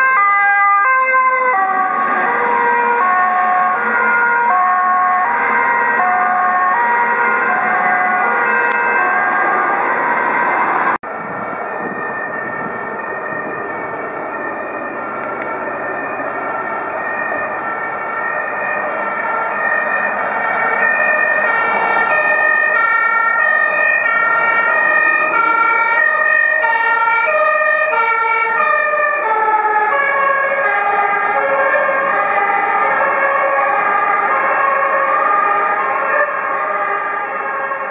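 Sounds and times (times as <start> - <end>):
two-tone sirens: 0.0 - 37.9.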